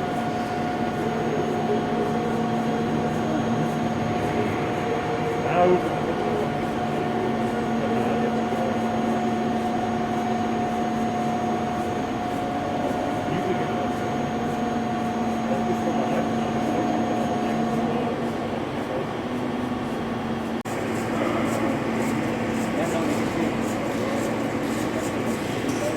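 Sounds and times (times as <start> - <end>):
lathe machine hum: 0.0 - 25.9.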